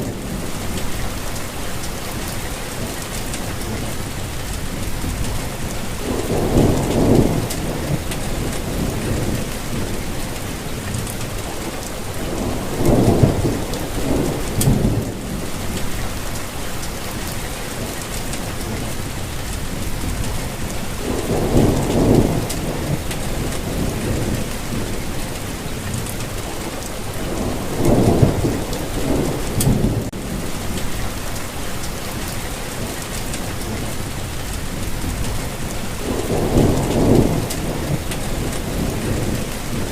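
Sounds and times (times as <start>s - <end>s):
low thunder rumble: 0.0s - 39.9s
rainfall hissing: 0.0s - 39.9s.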